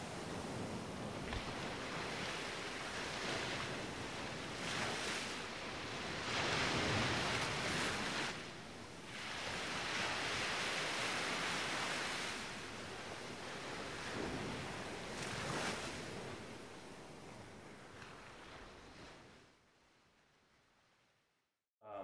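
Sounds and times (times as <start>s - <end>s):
ocean waves breaking: 0.0s - 19.4s.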